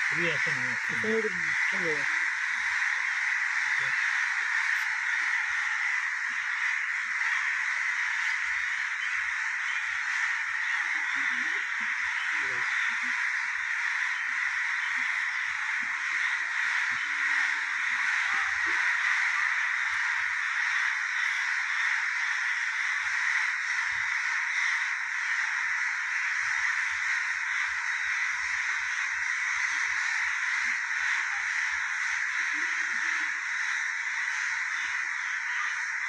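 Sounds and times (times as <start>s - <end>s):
crows cawing: 0.0s - 36.0s.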